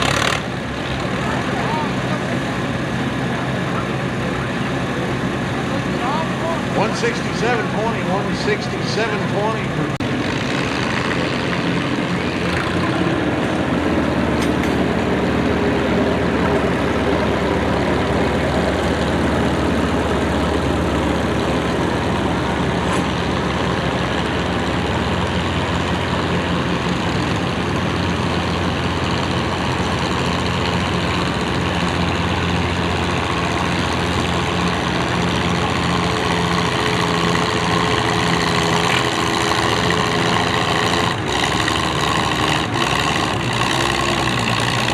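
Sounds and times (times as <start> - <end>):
tractor engine droning: 0.0 - 44.9.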